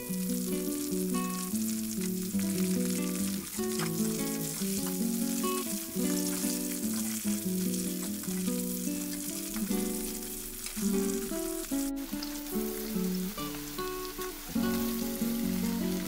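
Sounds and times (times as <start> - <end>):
onions sizzling in hot oil: 0.0 - 16.0
plucked melodic music: 0.0 - 16.0.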